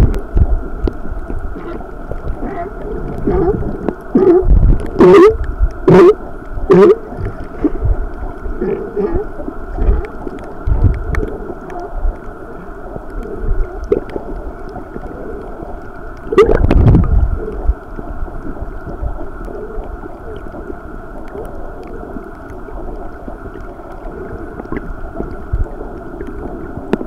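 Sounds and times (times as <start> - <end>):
water sloshing underwater: 0.0 - 27.0.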